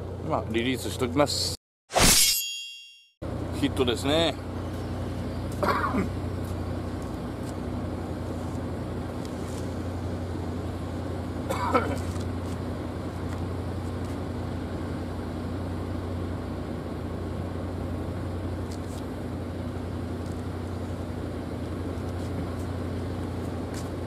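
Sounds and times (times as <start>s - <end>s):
engine running: 3.2s - 24.0s.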